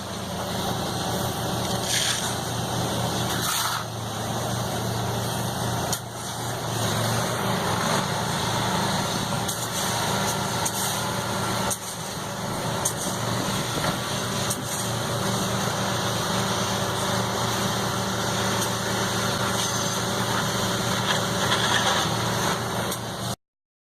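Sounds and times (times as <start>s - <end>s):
engine humming: 0.0s - 23.4s.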